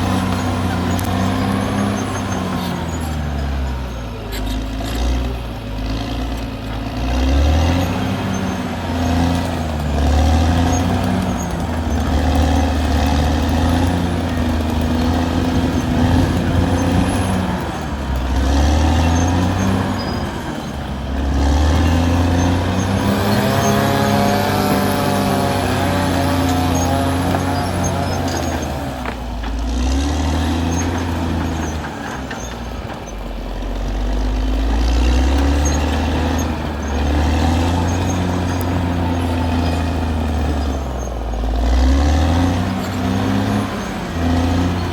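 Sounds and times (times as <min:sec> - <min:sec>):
bulldozer diesel engine under load: 0:00.0 - 0:44.9.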